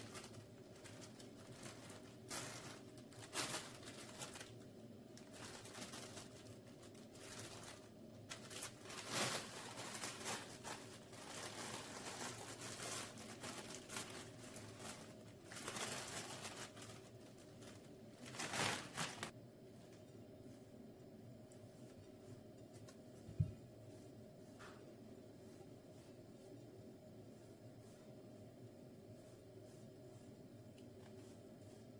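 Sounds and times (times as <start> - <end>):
rustling handling noises: 0.0 - 31.9.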